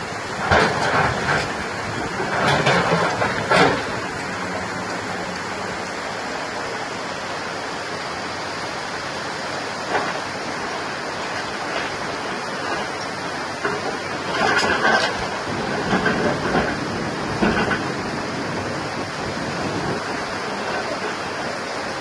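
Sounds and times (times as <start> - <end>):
excavator running: 0.0 - 22.0.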